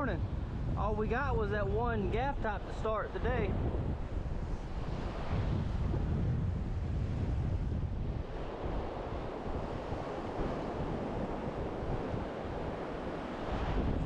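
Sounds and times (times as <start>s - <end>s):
wind buffeting microphone: 0.0s - 14.0s
surf breaking on beach: 2.0s - 14.0s.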